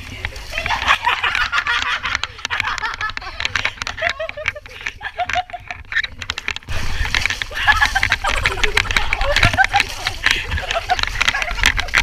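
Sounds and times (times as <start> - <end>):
woman laughing: 0.4 - 6.2, 6.8 - 12.0
clicks and taps: 1.7 - 12.0.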